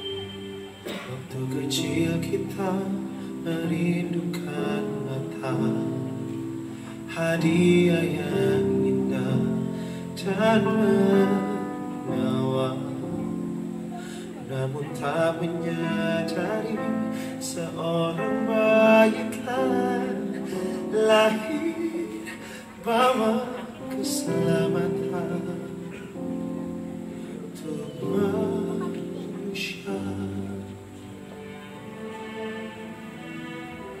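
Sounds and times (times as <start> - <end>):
worship song singing: 0.0 - 34.0.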